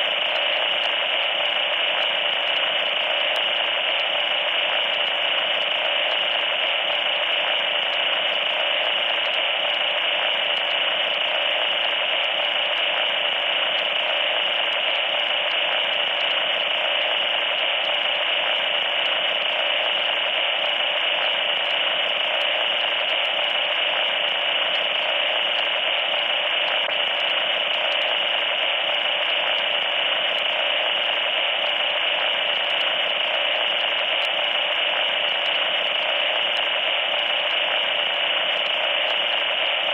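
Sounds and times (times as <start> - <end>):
harsh static hiss: 0.0 - 39.9.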